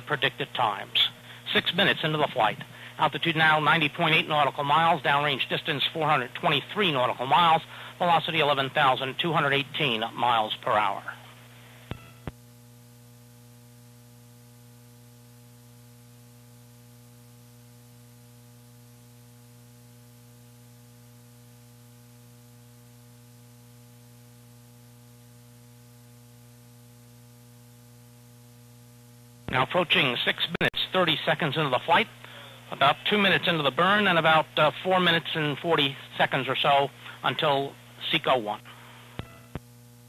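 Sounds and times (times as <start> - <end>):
electrical hum with faint hiss: 0.0 - 40.0.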